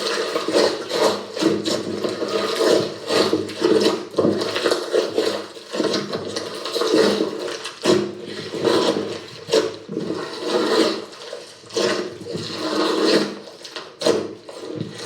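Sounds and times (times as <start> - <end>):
slime squelching by hand: 0.0 - 15.0.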